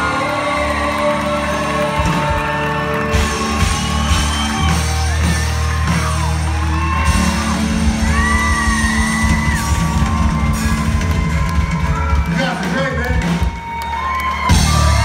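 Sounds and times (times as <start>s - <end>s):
live country-rock band: 0.0s - 15.0s.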